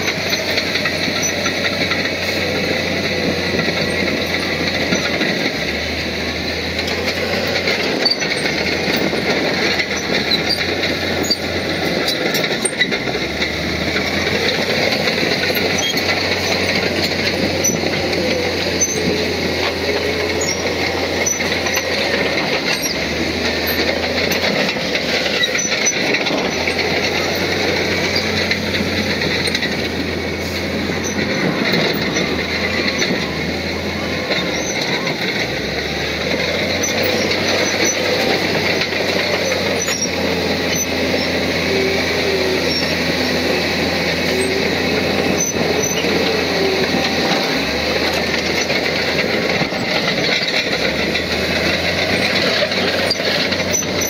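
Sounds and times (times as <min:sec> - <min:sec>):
bulldozer diesel engine under load: 0:00.0 - 0:54.0
metallic clatter of steel tracks: 0:00.0 - 0:54.0.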